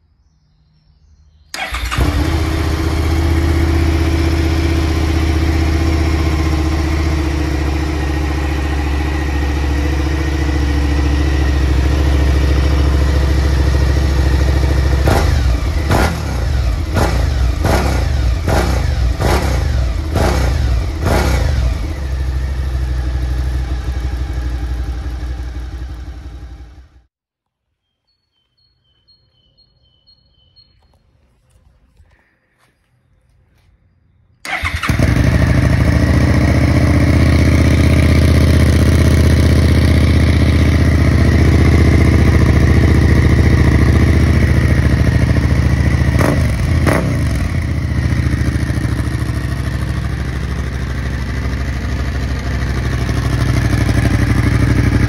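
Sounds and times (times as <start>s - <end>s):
motorcycle engine idling and revving: 1.5s - 27.1s, 34.4s - 55.0s.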